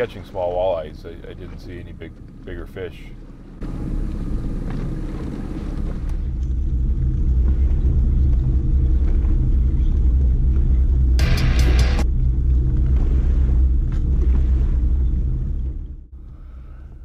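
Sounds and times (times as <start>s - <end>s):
outboard motor rumbling: 0.0s - 17.0s.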